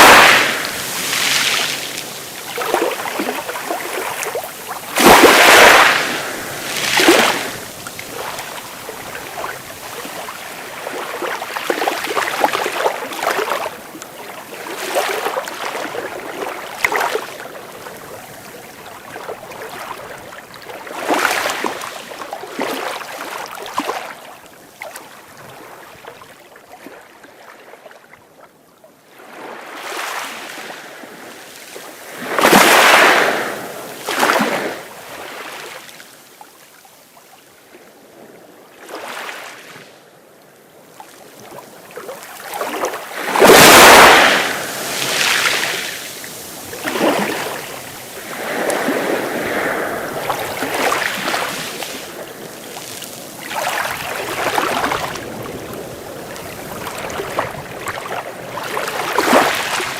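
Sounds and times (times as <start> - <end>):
sea waves breaking: 0.0 - 24.1, 29.2 - 36.0, 41.3 - 59.9.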